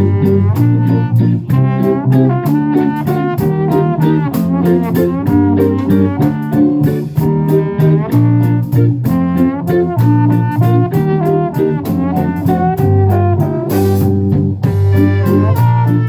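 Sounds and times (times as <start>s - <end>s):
live band music: 0.0s - 16.0s
steady drum beat: 0.0s - 16.0s.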